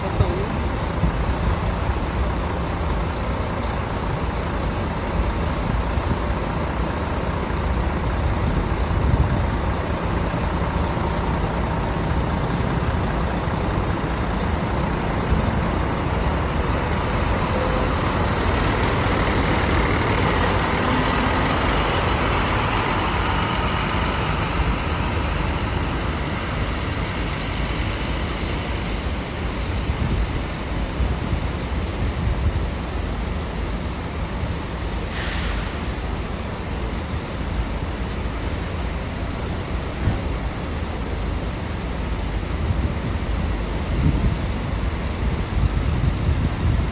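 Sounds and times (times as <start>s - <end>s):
diesel engine rumbling: 0.0s - 46.9s.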